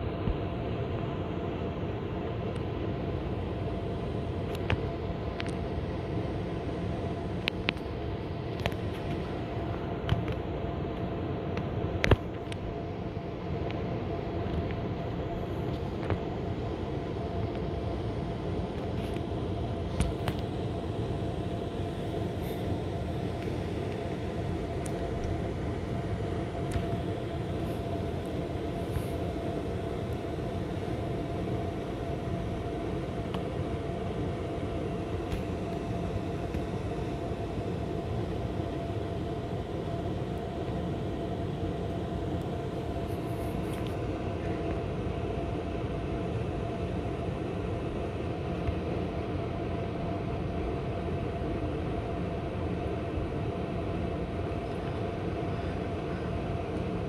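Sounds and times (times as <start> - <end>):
air conditioner fan humming: 0.0 - 57.0.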